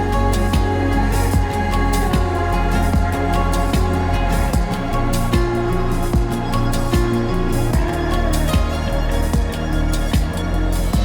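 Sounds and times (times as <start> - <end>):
music with steady beat and synth chords: 0.0 - 11.0.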